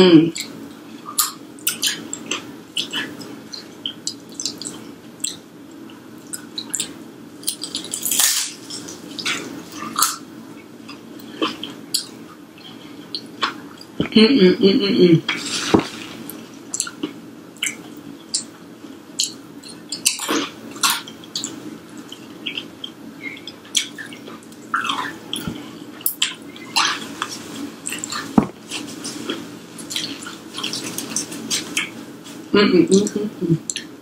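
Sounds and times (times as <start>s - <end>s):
person chewing and crunching: 0.4s - 14.0s, 15.3s - 18.6s, 19.2s - 32.4s.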